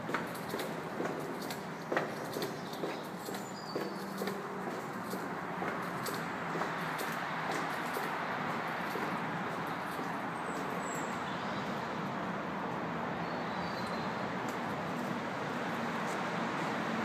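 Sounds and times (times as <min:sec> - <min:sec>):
motorway traffic rushing: 0:00.0 - 0:17.0.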